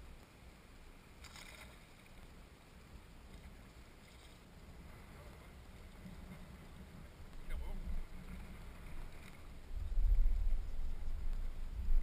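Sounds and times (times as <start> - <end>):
faint wind rumble: 0.0 - 12.0
soft hiss: 0.0 - 12.0
water noise: 0.0 - 12.0.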